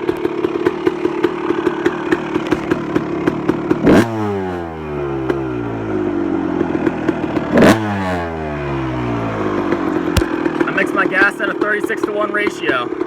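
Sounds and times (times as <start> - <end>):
two-stroke engine idling and revving: 0.0 - 13.0.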